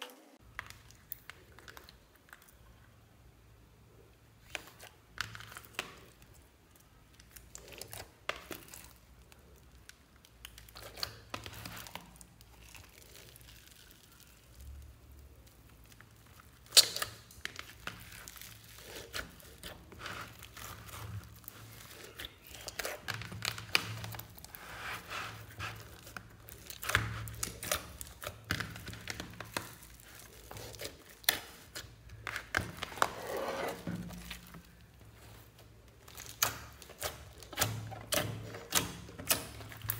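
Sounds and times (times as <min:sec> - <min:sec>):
slime squishing with wet crackles: 0:00.4 - 0:39.9.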